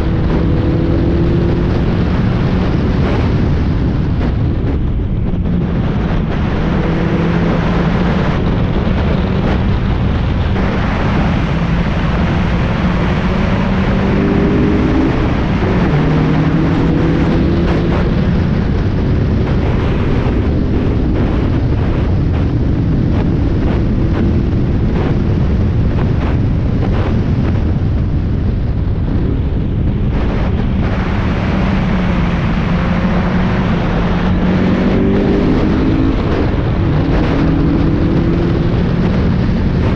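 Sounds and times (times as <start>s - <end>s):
race car engine revving: 0.0s - 27.4s, 29.0s - 39.9s
wind and road noise: 0.0s - 39.9s.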